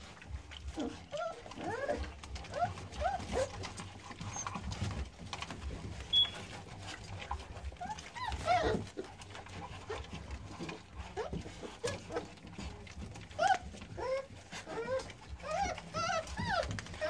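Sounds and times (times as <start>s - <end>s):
puppies chewing: 0.0s - 17.0s
puppies whining and squealing: 0.1s - 17.0s.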